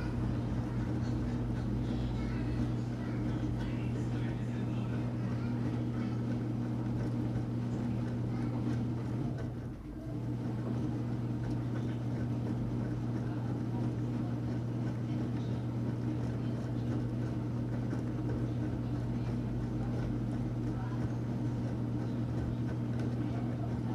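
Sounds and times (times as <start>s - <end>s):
washing machine motor humming: 0.0s - 23.9s.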